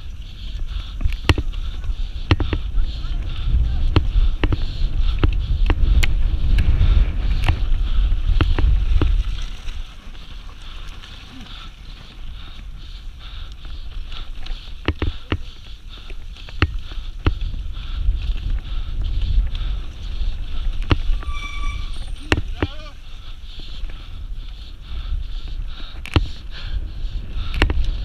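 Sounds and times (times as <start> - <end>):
bike knocking and rattling: 0.0 - 24.7
wind rumbling on microphone: 0.0 - 28.0.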